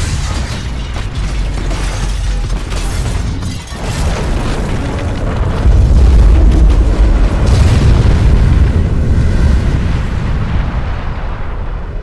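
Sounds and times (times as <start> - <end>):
crackling debris: 0.0 - 12.0
explosions booming: 0.0 - 12.0.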